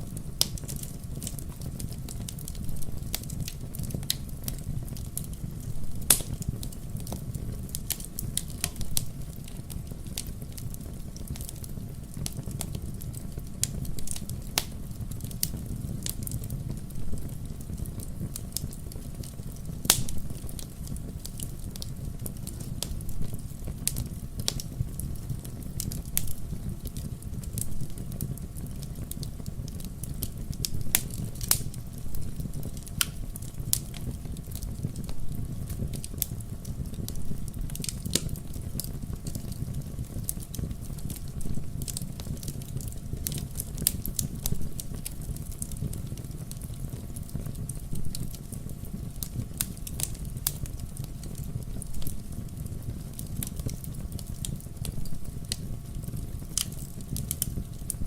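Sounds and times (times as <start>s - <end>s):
logs crackling and popping in fire: 0.0s - 58.0s
low steady fire roar: 0.0s - 58.0s.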